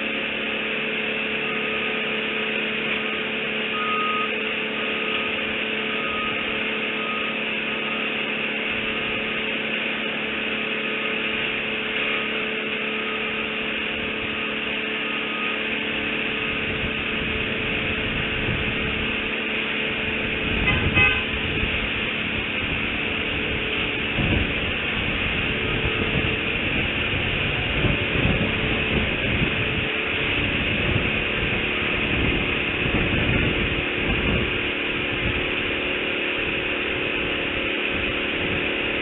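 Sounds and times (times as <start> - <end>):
distant road traffic rumble: 0.0 - 39.0.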